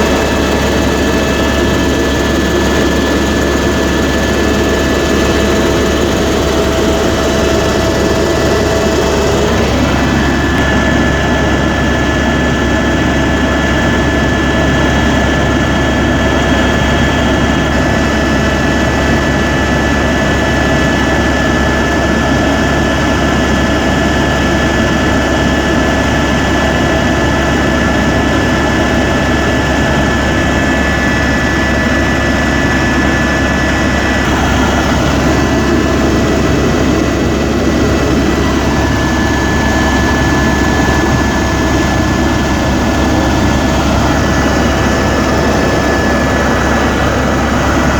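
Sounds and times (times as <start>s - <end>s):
helicopter drone and whine: 0.0s - 47.9s.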